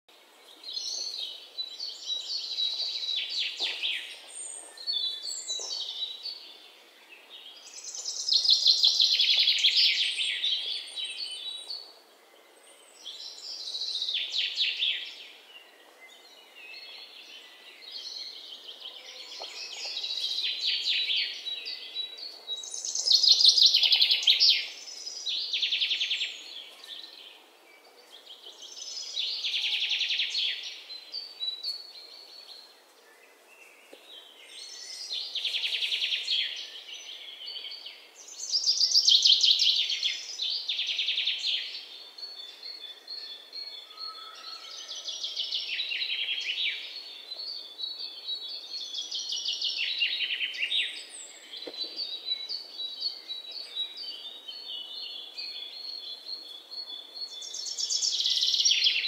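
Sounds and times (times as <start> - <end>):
faint outdoor hiss: 0.1 - 59.0.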